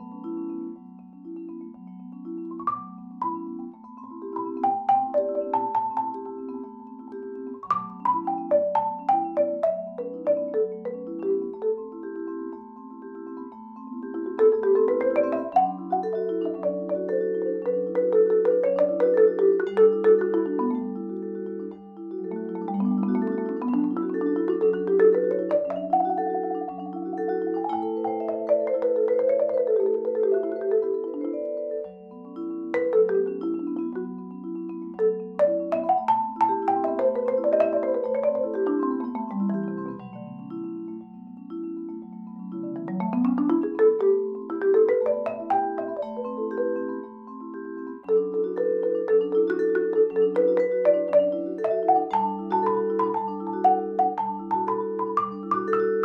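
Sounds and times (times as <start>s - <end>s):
marimba played with mallets: 0.0s - 56.0s
vibraphone ringing tones: 0.0s - 56.0s.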